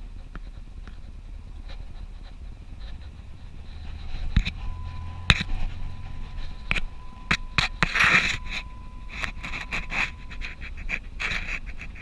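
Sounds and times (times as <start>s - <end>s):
rustling scrape: 0.0s - 12.0s.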